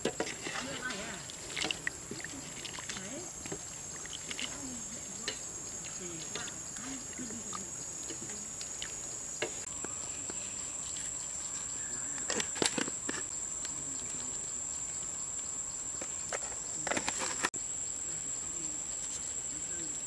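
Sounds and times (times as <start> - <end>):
soup crackling over a fire: 0.0 - 17.6
insects trilling: 0.0 - 20.0.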